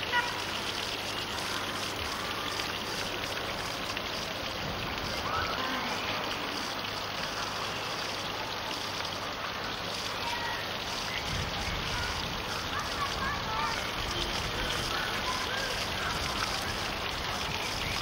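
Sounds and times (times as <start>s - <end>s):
faint distant voices: 0.0s - 18.0s
rushing hiss of water: 0.0s - 18.0s.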